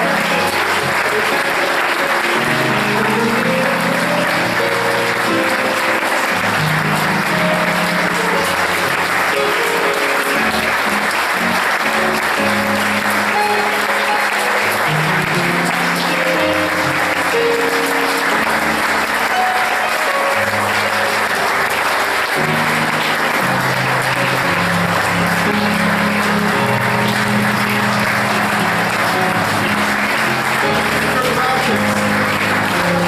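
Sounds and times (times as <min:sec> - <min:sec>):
audience applauding: 0:00.0 - 0:33.0
low instrumental music: 0:00.0 - 0:33.0.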